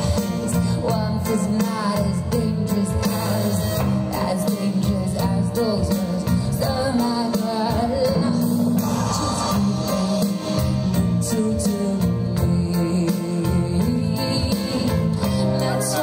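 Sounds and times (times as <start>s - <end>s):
band and orchestra playing pop song: 0.0s - 16.0s
woman singing: 0.0s - 16.0s.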